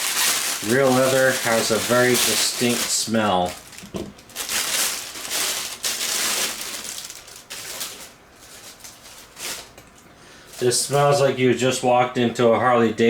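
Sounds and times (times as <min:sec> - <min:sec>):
packaging rustling and crinkling: 0:00.0 - 0:11.2.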